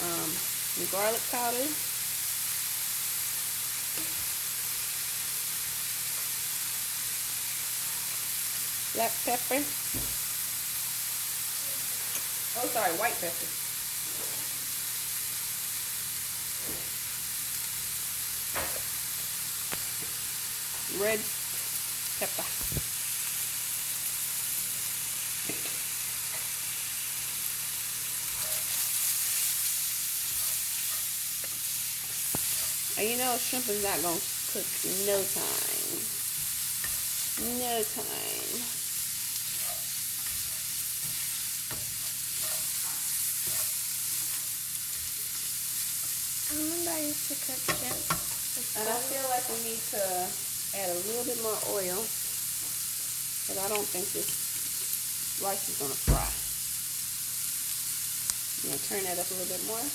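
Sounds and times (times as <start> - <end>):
fried rice sizzling in a pan: 0.0 - 59.9.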